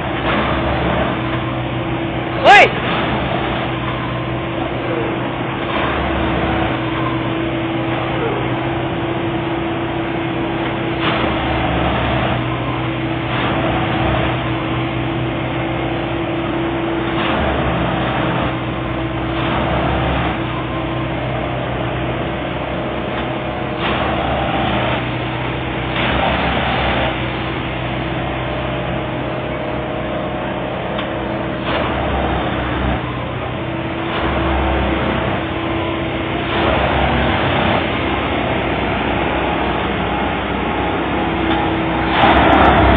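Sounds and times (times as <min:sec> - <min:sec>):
diesel engine running: 0:00.0 - 0:42.9
tamping machine bursts with rumble: 0:00.0 - 0:42.9.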